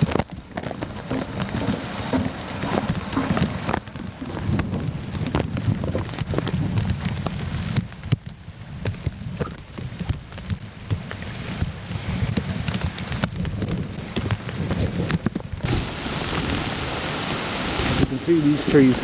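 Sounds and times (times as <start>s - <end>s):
rain drops tapping: 0.0s - 19.0s
steady hiss of rain: 0.0s - 19.0s
wind rumble on microphone: 0.0s - 19.0s.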